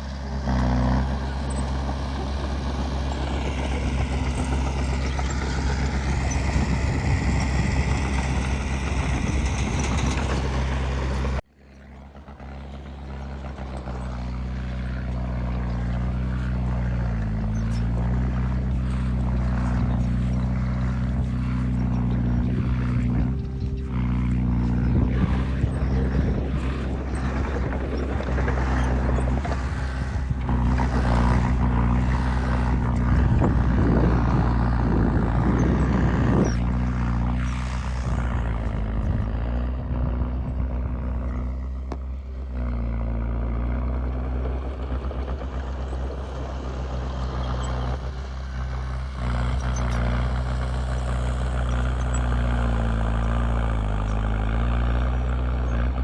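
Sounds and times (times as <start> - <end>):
diesel machinery engine: 0.0 - 56.0
rumbling and clattering: 0.0 - 56.0.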